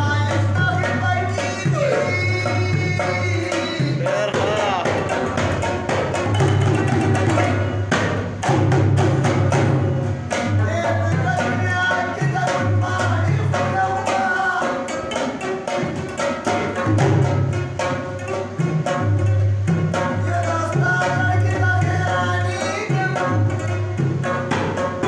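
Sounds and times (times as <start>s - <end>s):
hand drum beating: 0.0s - 25.0s.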